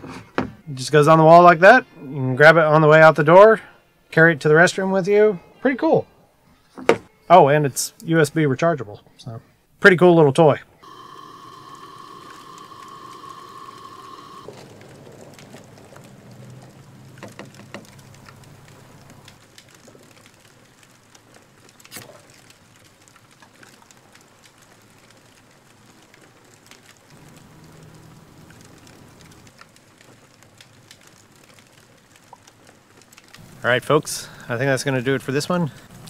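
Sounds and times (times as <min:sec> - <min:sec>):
quiet outdoor background: 0:00.0 - 0:36.0.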